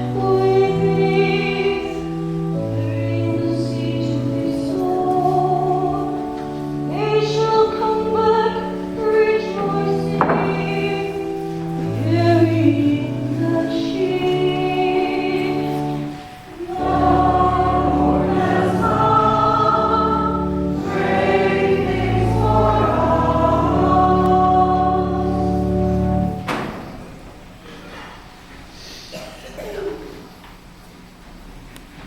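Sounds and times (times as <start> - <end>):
church choir singing: 0.0 - 27.5.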